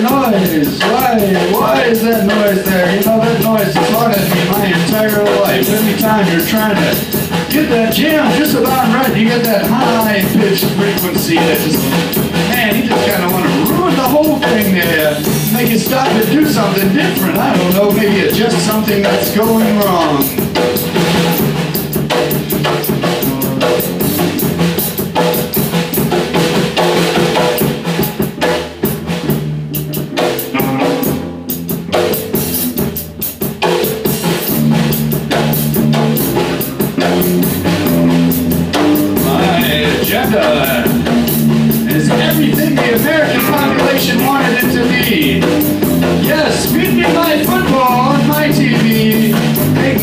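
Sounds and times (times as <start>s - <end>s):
electric bass: 0.0s - 50.0s
rock drum beat: 0.0s - 50.0s.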